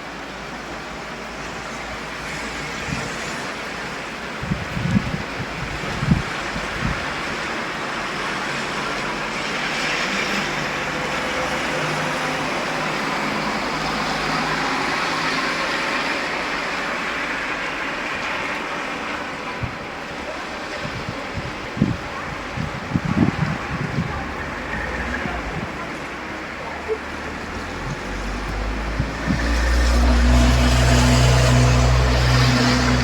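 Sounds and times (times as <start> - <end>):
steady rain: 0.0 - 33.0
vehicle tyres hissing on wet road: 0.0 - 33.0.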